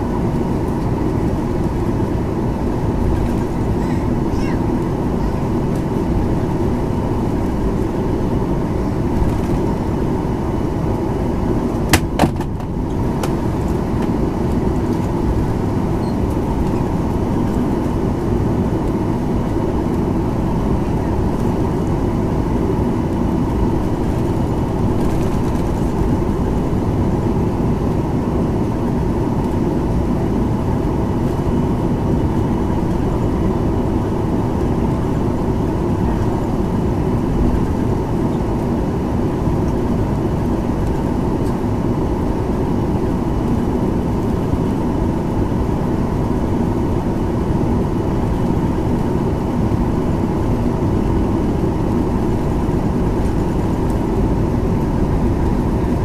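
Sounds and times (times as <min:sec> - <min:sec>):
jet engines low rumble: 0:00.0 - 0:56.0.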